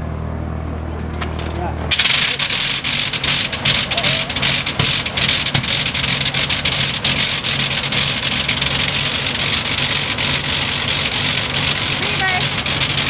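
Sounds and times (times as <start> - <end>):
rotary aircraft engine running: 0.5 - 13.0.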